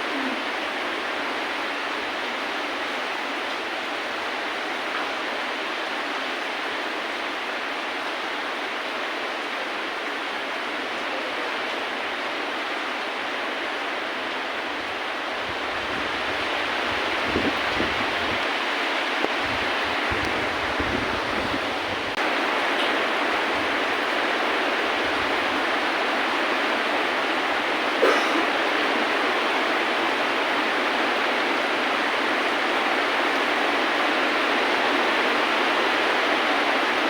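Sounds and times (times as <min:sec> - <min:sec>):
hiss of rain falling: 0:00.0 - 0:37.0.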